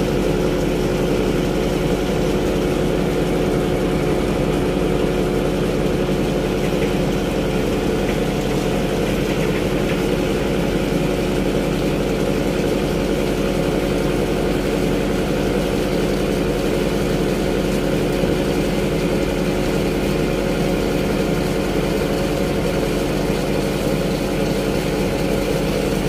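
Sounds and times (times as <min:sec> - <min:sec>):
ship engine droning: 0:00.0 - 0:26.0.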